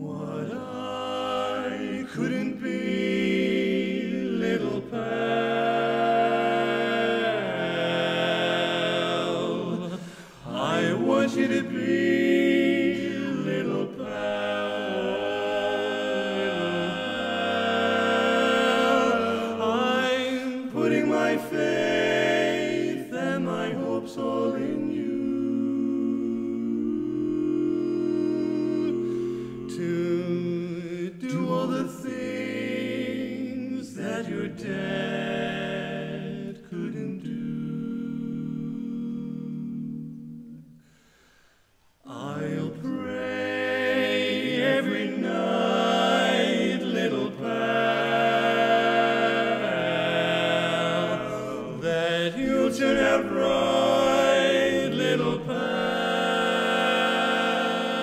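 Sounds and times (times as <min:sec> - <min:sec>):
male quartet singing a cappella: 0:00.0 - 0:41.2, 0:42.0 - 0:58.0.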